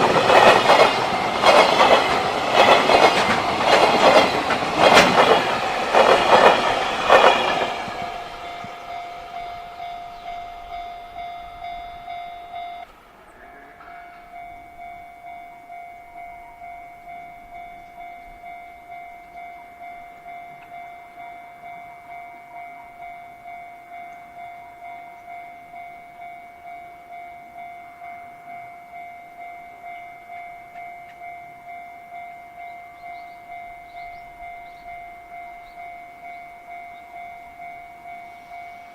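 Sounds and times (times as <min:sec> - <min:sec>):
level-crossing warning bell ringing: 0:00.0 - 0:38.9.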